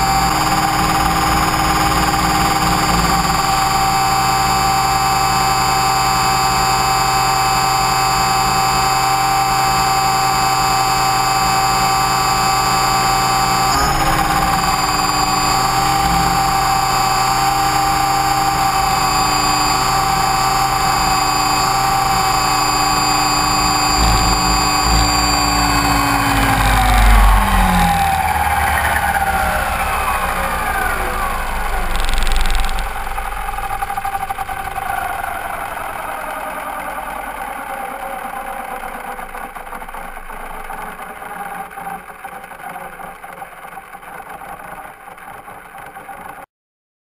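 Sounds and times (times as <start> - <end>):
rc helicopter motor whine: 0.0 - 46.5.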